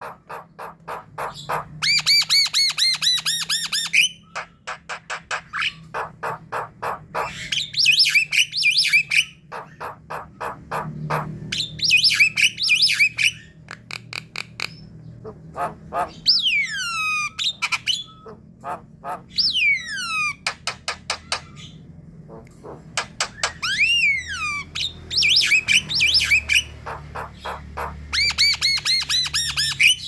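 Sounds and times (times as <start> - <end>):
birds whistling: 0.0 - 21.9, 22.6 - 30.0
birds harsh rasping chatter: 0.0 - 30.0.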